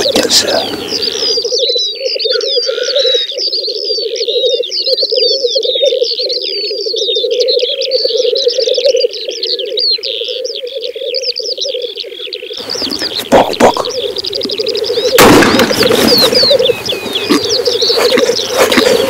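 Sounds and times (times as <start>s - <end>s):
grouse bubbling calls: 0.0s - 19.0s
high chirps and whistled calls: 0.0s - 19.0s.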